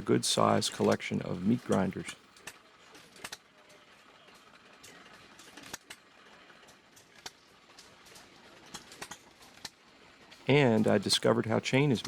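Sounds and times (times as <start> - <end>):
faint background ambience: 0.0 - 12.0.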